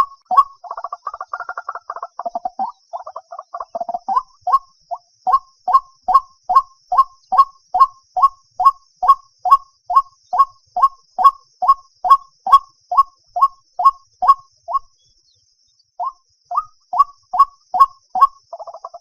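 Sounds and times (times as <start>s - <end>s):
waterhen calling hollow notes: 0.0s - 14.9s, 16.0s - 19.0s.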